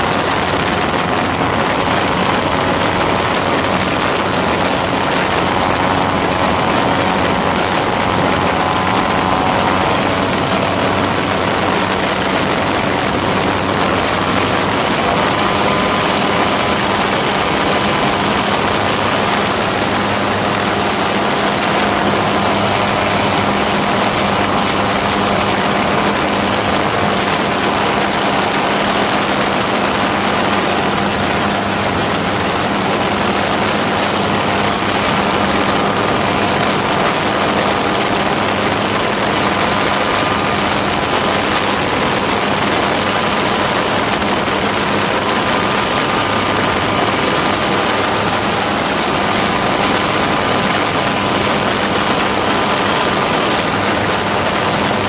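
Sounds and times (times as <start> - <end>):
two-stroke aircraft engine running: 0.0 - 55.0
wind rushing over microphone: 0.0 - 55.0.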